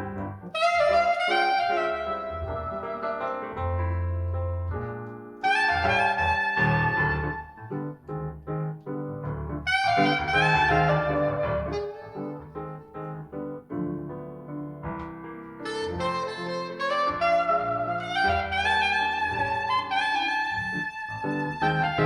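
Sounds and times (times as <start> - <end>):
piano chords: 0.0 - 22.0
soprano saxophone jazz melody: 0.1 - 8.3, 9.2 - 14.2, 15.5 - 22.0.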